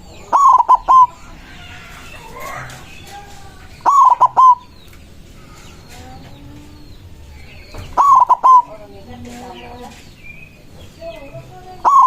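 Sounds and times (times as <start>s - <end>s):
dove cooing: 0.0s - 10.0s, 10.6s - 12.0s
faint bird calls: 0.0s - 12.0s.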